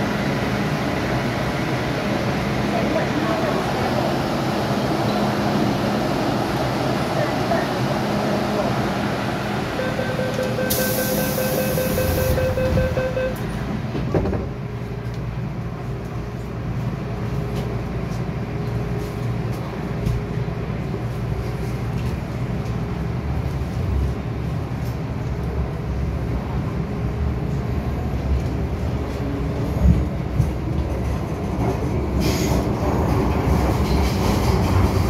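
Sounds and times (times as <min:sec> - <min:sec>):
train hum and rumble: 0:00.0 - 0:35.0.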